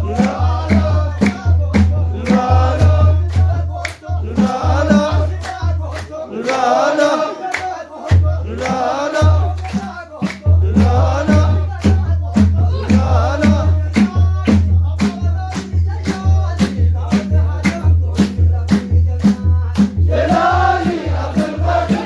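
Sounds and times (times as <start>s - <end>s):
men chanting devotional song: 0.0s - 22.0s
rhythmic hand-clapping: 0.0s - 22.0s.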